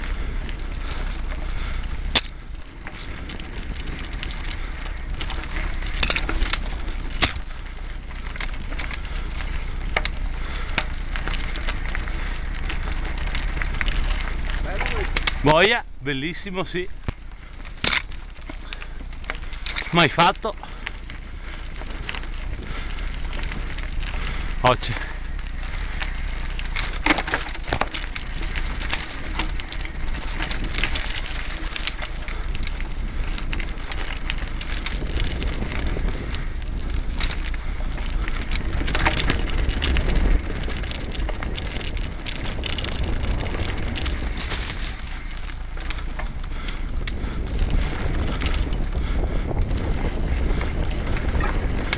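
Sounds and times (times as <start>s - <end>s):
bike rattling over bumps: 0.0s - 51.9s
bike tyres crackling over dirt: 0.0s - 51.9s
wind rumble on microphone: 0.0s - 51.9s.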